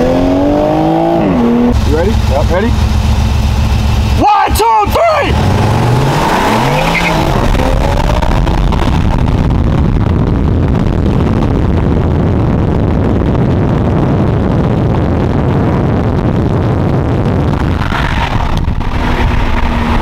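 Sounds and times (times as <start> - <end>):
sports car engine at full throttle: 0.0 - 20.0
wind and tyre noise: 0.0 - 20.0.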